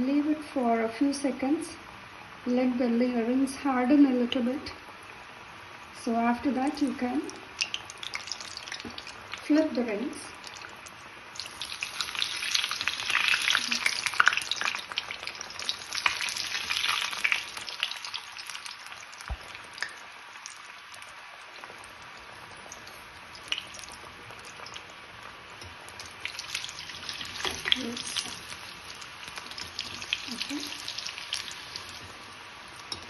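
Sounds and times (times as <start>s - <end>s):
dough sizzling in hot oil: 0.6s - 33.0s.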